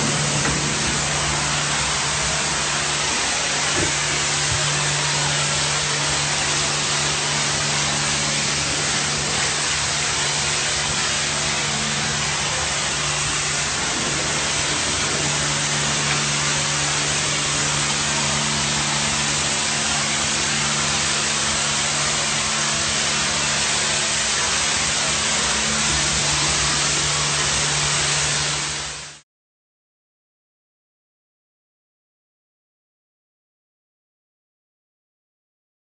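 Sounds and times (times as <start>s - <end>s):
low steady machine hum: 0.0s - 29.0s
steam hissing from nozzle: 0.0s - 29.2s.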